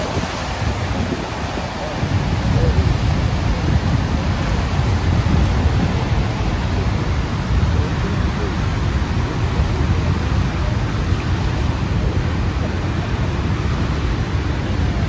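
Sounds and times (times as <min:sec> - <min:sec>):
waterfall crashing and rushing: 0:00.0 - 0:15.0.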